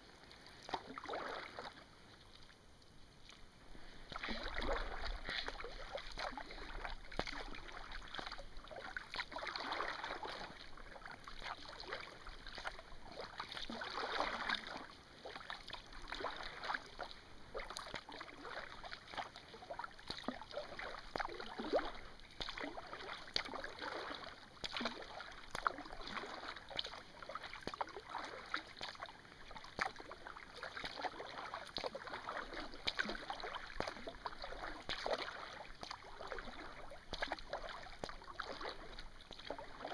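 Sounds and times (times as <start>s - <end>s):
paddle splashing: 0.0s - 2.6s, 3.2s - 39.9s
water dripping off paddle: 4.0s - 39.9s.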